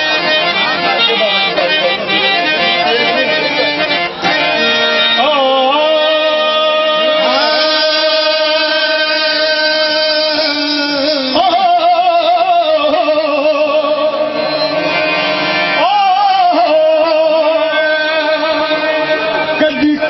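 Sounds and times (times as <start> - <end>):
harmonium drone: 0.0 - 20.0.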